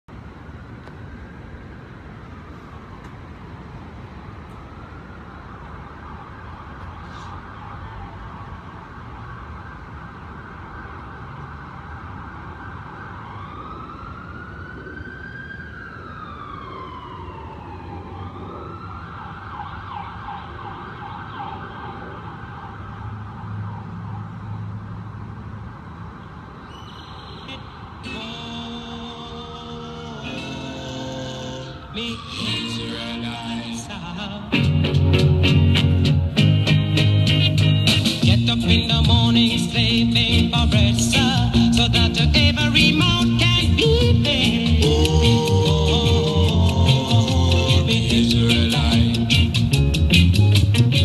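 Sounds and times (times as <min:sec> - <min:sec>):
low traffic rumble: 0:00.1 - 0:51.0
emergency vehicle siren wailing: 0:01.0 - 0:25.0, 0:26.0 - 0:34.5, 0:39.0 - 0:49.3.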